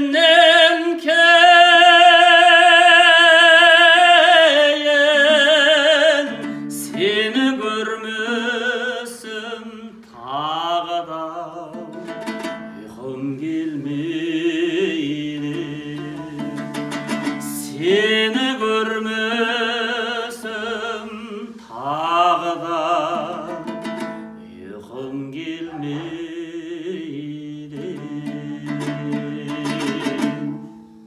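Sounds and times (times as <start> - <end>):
man singing: 0.0 - 30.7
strummed lute: 0.0 - 31.0.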